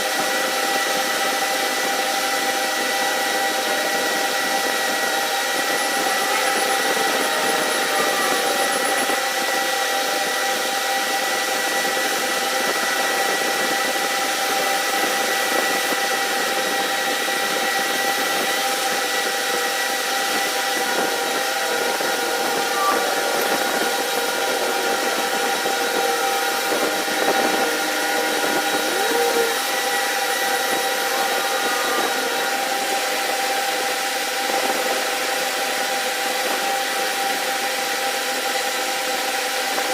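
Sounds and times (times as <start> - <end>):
machine whine over hiss: 0.0 - 39.9.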